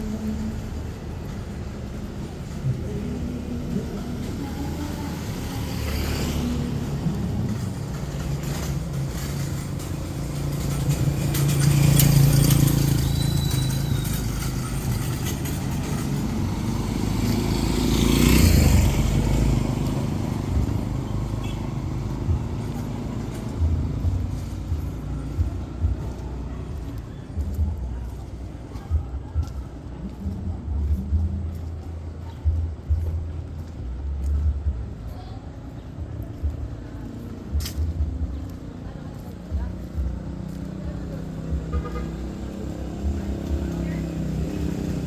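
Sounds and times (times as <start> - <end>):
vehicles passing close by: 0.0 - 45.0.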